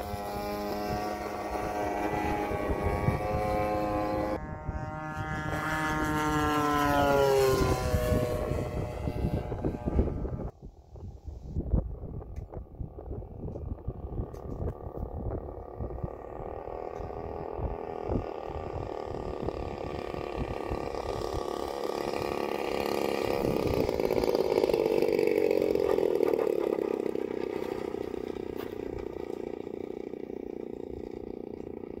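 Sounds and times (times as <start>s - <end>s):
wind rumble on microphone: 0.0s - 29.9s
model plane engine: 0.0s - 32.0s.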